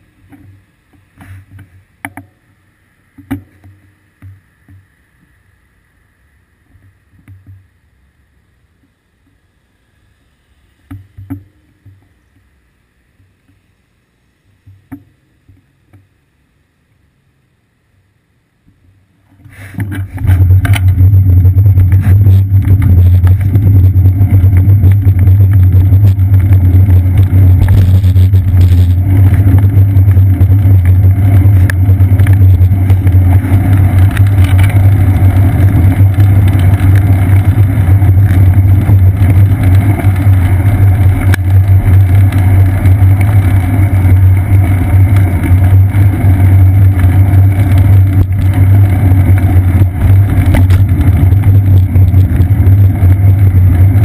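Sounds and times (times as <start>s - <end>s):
road vibration rumble: 0.0s - 54.0s
wind: 0.0s - 54.0s.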